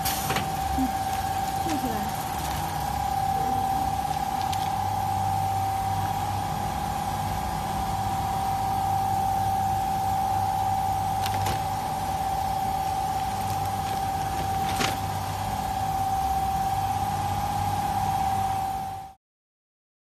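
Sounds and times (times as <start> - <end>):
machine high whine: 0.0 - 19.2
machine low hum: 0.0 - 19.2.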